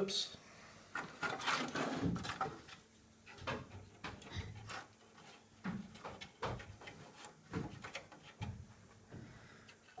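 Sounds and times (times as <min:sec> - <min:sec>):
plastic parts knocking and clicking: 0:00.9 - 0:10.0.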